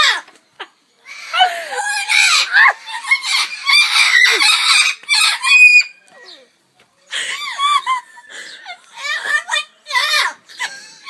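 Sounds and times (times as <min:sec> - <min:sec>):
talking birds calling loudly: 0:00.0 - 0:11.0.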